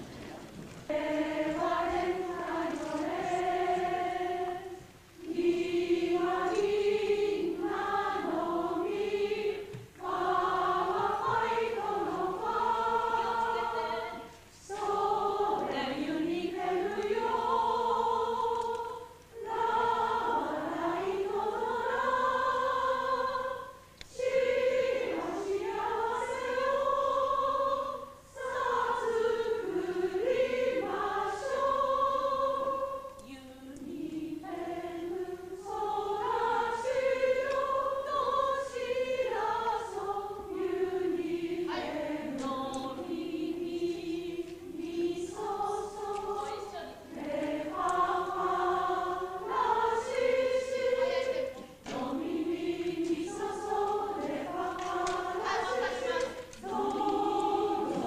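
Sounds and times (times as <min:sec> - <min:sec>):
group singing unaccompanied: 0:00.8 - 0:58.0.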